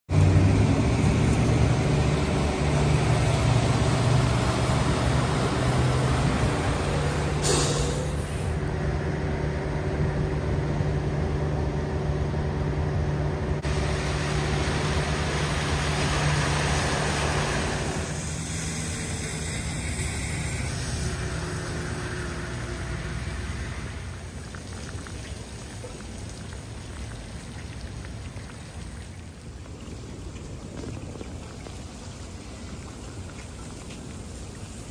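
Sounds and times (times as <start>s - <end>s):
heavy rain on standing water: 0.1s - 8.5s, 13.6s - 34.9s
low engine hum: 0.1s - 34.9s.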